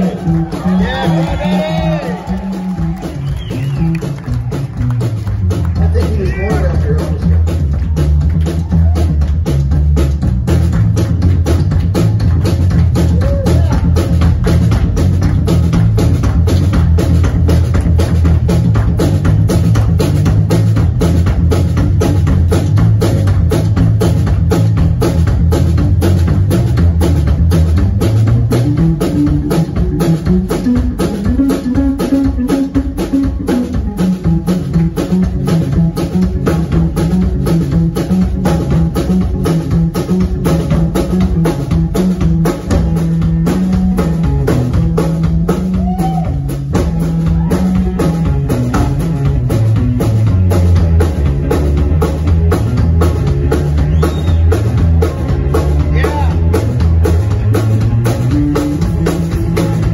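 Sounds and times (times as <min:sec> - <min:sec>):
bass line: 0:00.0 - 0:59.9
drum kit steady beat: 0:00.0 - 0:59.9
electric guitars: 0:00.0 - 0:59.9.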